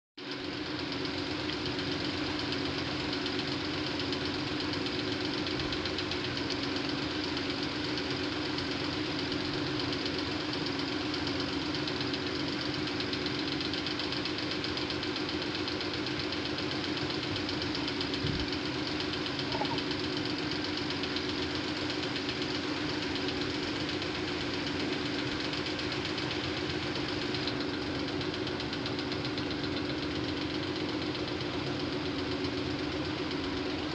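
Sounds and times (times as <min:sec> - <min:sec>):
engine idling with fast pulse: 0:00.2 - 0:33.9.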